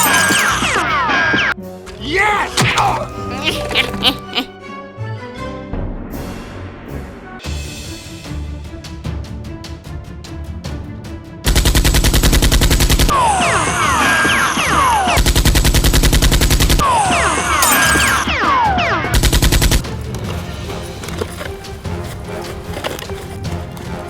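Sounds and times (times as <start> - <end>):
background music: 0.0 - 15.2, 16.8 - 24.0.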